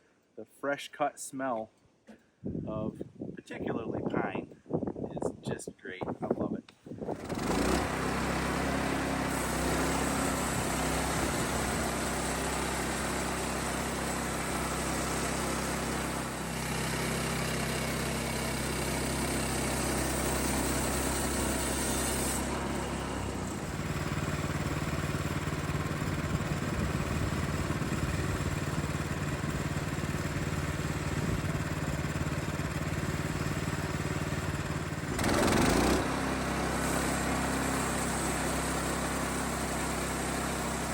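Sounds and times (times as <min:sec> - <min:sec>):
sawmill gas engine running: 0:07.1 - 0:40.9.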